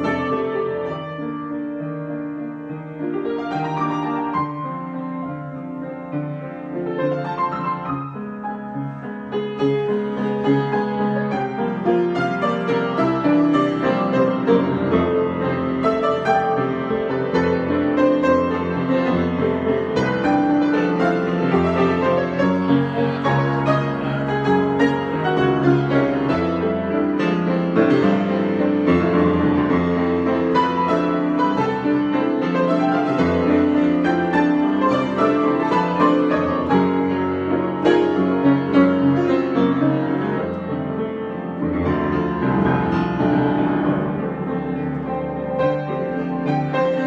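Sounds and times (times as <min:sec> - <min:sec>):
improvised piano chords and melody: 0:00.0 - 0:47.0.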